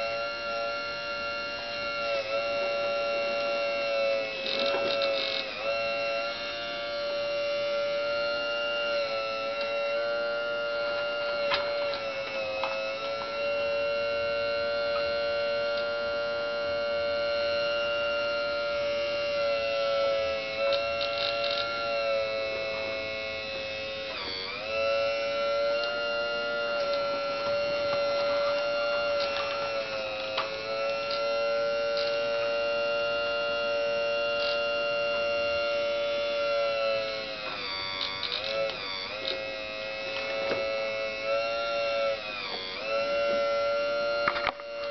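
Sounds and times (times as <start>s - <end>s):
hydraulic pump whining: 0.0s - 44.9s.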